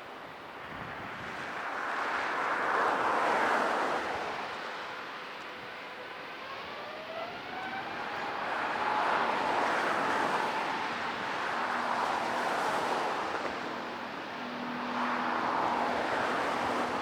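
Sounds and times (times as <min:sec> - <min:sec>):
jet engines whining and roaring: 0:00.0 - 0:17.0.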